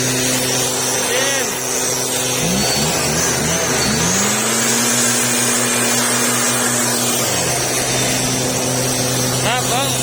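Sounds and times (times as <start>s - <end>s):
leaf blower engine revving: 0.0s - 10.0s.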